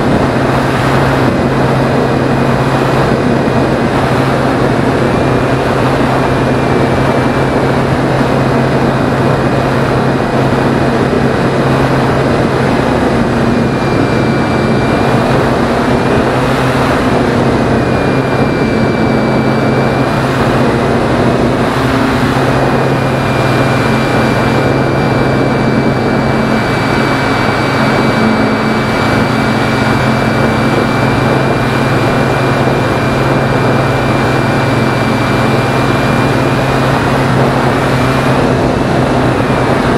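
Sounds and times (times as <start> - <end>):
air rushing over microphone: 0.0 - 39.9
electric motor and propeller whine: 0.0 - 39.9.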